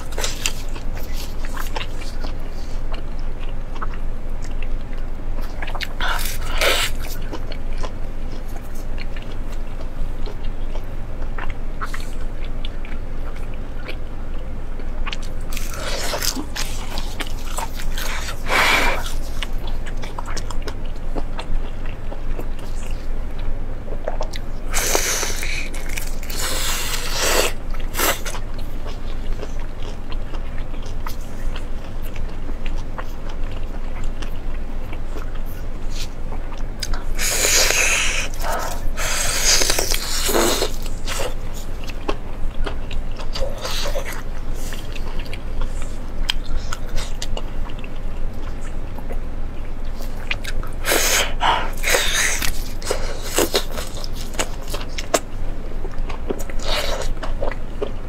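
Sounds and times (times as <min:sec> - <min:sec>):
biting and chewing: 0:00.0 - 0:58.0.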